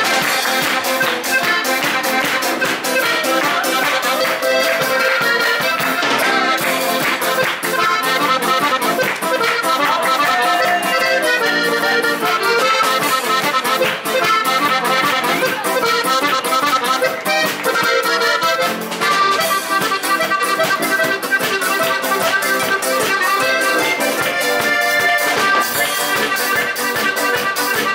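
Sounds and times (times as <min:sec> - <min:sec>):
button accordion folk dance tune: 0:00.0 - 0:27.9.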